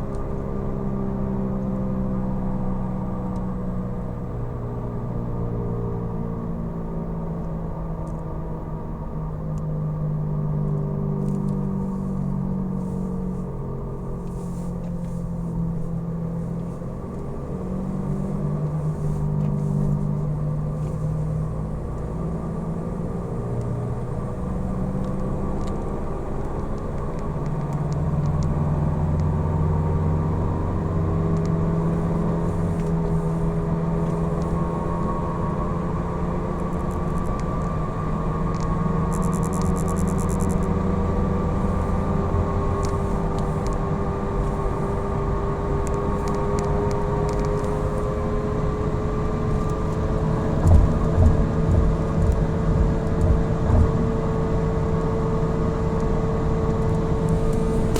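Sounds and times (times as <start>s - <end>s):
tyre road noise droning: 0.0s - 57.9s.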